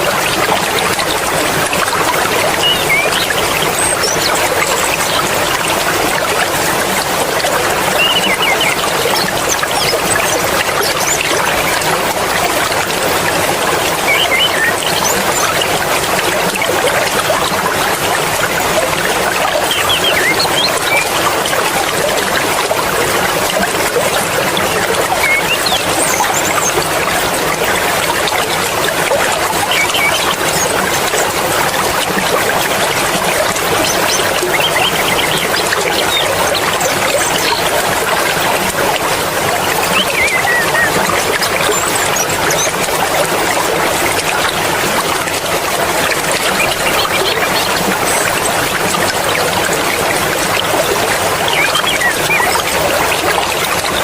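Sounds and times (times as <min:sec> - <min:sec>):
stream water flowing and splashing: 0:00.0 - 0:54.0.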